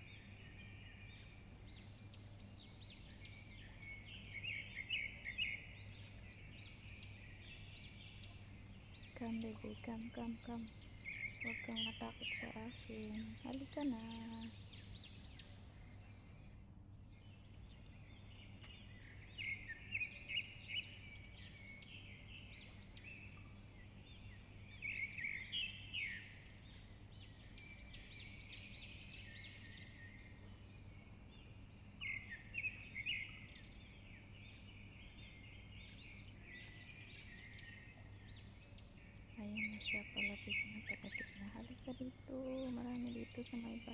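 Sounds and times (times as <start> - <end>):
faint low hum: 0.0 - 43.9
small birds chirping: 0.0 - 43.9.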